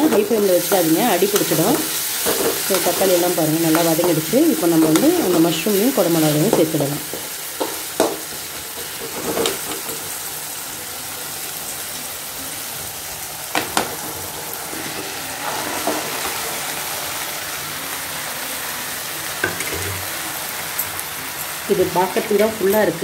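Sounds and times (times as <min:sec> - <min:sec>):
masala sizzling in a hot pan: 0:00.0 - 0:23.0.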